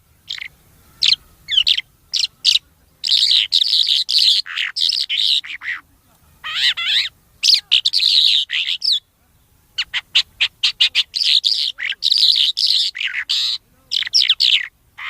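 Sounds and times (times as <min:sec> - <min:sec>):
bird singing chirps and warbles: 0:00.0 - 0:15.0.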